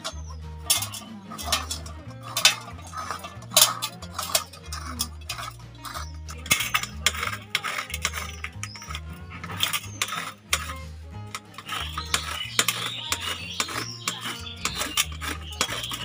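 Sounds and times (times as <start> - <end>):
papaya scraping on metal grater: 0.0 - 16.0.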